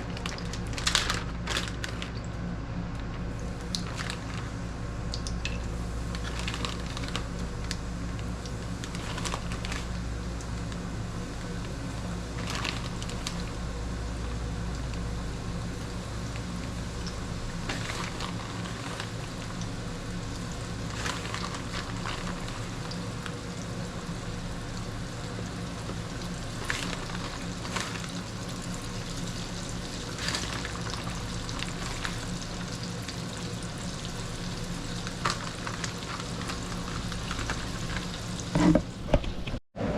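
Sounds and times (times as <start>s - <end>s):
low steady hum: 0.0s - 39.9s
fish frying in hot oil: 3.2s - 38.8s.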